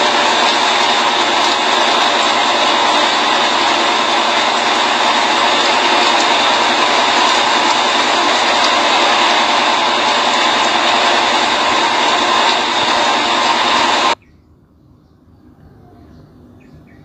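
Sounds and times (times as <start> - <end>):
water jets spraying: 0.0 - 14.2.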